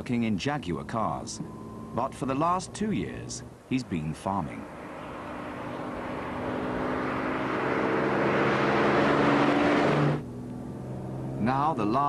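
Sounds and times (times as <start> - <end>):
car engine cruising: 0.0 - 12.0
tyre noise on road: 0.0 - 12.0.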